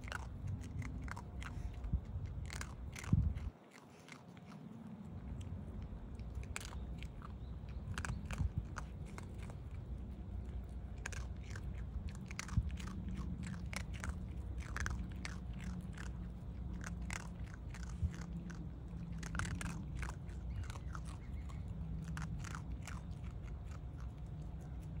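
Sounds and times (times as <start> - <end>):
animal crunching dry food: 0.0 - 25.0
low steady rumble: 0.0 - 25.0.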